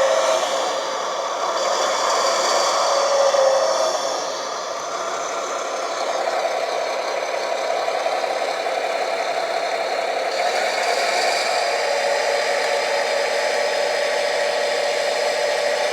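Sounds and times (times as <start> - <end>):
model tractor mechanical whir: 0.0 - 15.9.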